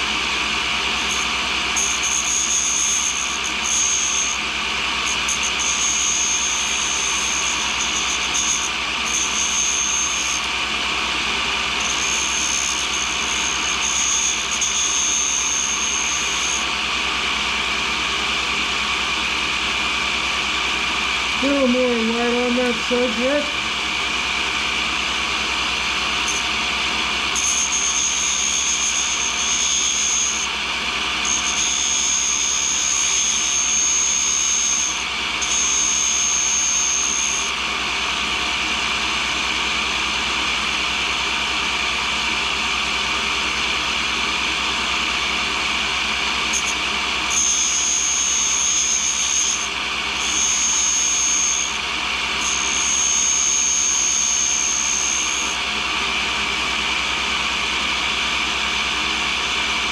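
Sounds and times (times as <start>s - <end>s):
high thin grinding whine: 0.0s - 59.9s
tool grinder running: 0.0s - 59.9s.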